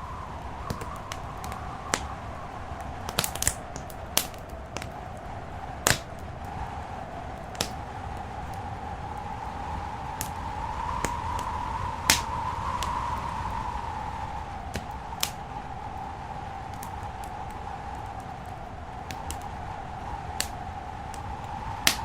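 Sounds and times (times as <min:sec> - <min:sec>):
faint wavering whistle: 0:00.0 - 0:22.0
wood fire crackling and popping: 0:00.0 - 0:22.0.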